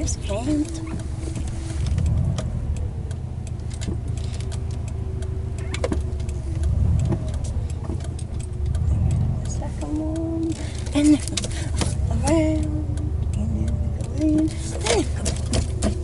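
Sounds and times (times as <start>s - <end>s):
car engine rumbling: 0.0s - 16.0s
light clicks: 0.2s - 16.0s.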